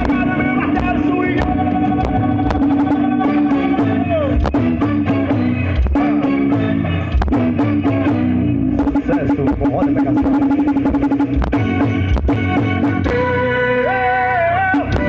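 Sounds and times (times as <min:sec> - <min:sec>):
steady drum beat: 0:00.0 - 0:13.6
lead line with sliding notes: 0:00.0 - 0:14.6
loud music over car sound system: 0:00.0 - 0:15.0.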